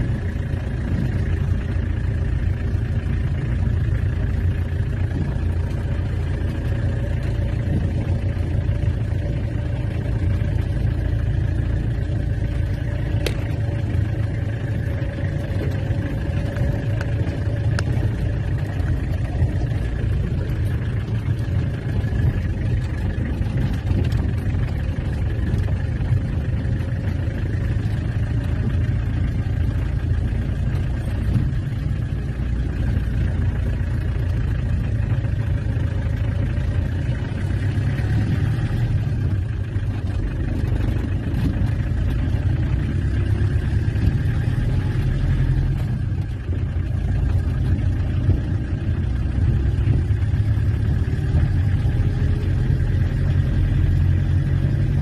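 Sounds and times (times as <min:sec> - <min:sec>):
diesel engine running: 0:00.0 - 0:55.0
tyres rumbling on dirt road: 0:00.0 - 0:55.0.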